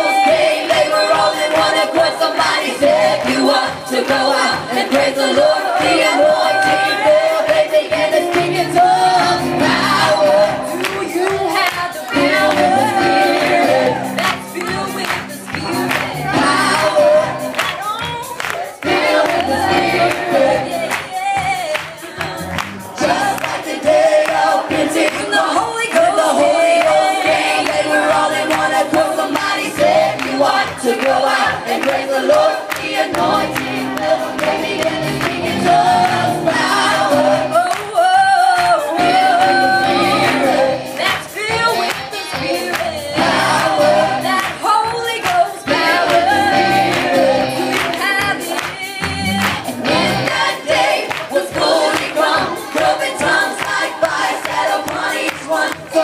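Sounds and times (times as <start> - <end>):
gospel choir singing: 0.0 - 56.0
keyboard accompaniment: 0.0 - 56.0.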